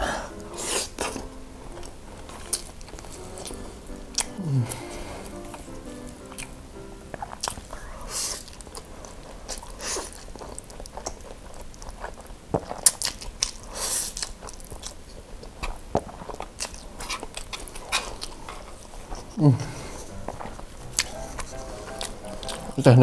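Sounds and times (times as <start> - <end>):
wet mouth clicks and chewing: 0.6 - 4.4, 6.2 - 18.9, 20.1 - 22.7.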